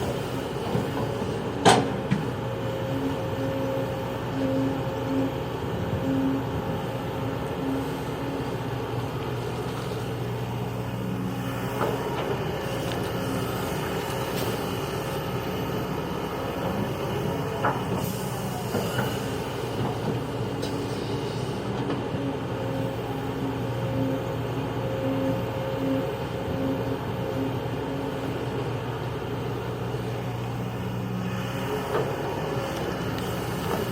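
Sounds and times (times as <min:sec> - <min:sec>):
diesel machinery engine drone: 0:00.0 - 0:33.9.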